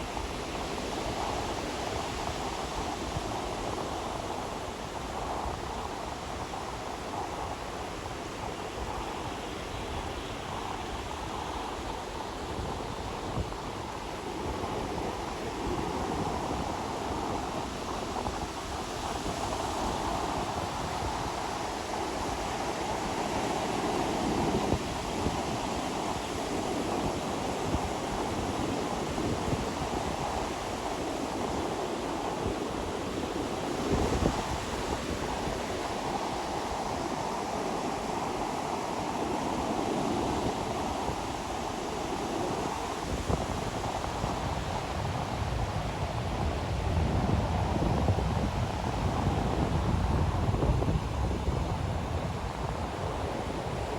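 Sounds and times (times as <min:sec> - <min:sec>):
ocean waves washing onto beach: 0:00.0 - 0:53.9.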